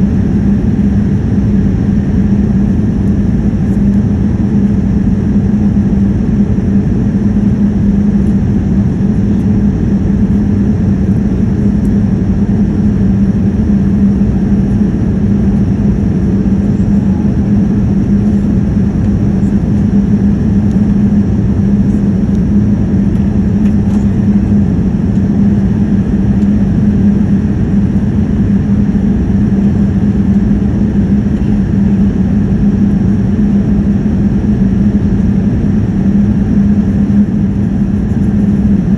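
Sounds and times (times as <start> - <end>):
airliner cabin drone: 0.0 - 38.9
constant low hum: 0.0 - 38.9.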